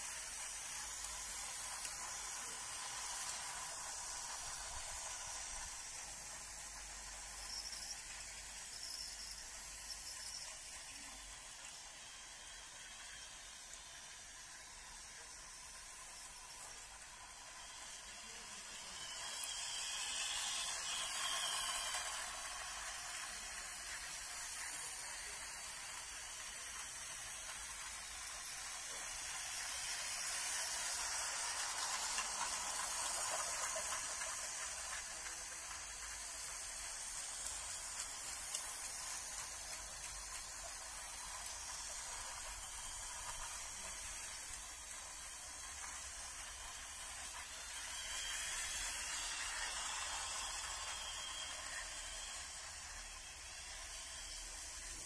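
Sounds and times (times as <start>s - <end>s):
toy trains whirring on track: 0.0s - 55.0s.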